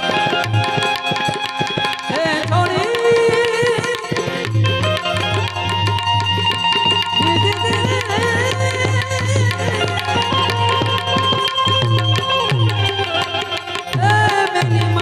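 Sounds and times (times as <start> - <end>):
fast hand-drum rhythm: 0.0 - 15.0
harmonium sustained notes: 0.0 - 15.0.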